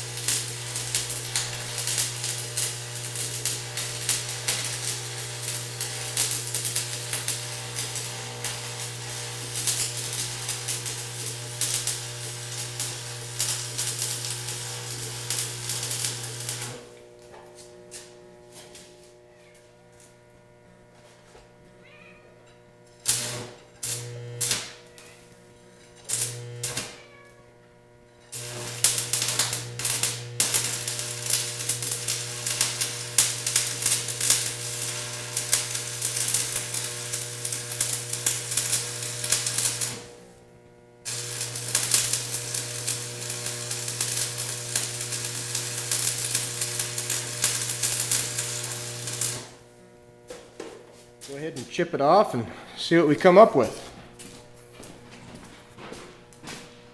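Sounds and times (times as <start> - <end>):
arc welding crackling: 0.0 - 19.2, 22.9 - 27.0, 28.2 - 56.9
welder humming: 0.0 - 21.6, 22.4 - 27.0, 27.7 - 56.9.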